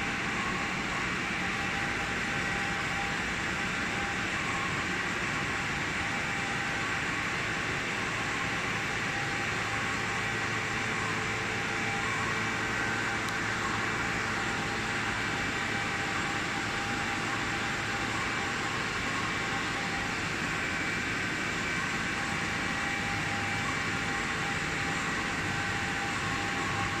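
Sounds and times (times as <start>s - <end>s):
machine hum with high whine: 0.0s - 27.0s.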